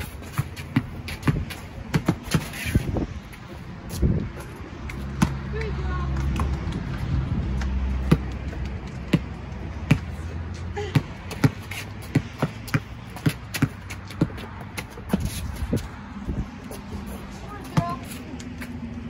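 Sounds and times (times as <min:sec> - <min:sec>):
basketball dribbled on concrete: 0:00.0 - 0:02.9, 0:03.9 - 0:07.0, 0:07.6 - 0:10.2, 0:10.8 - 0:15.9, 0:16.7 - 0:18.7.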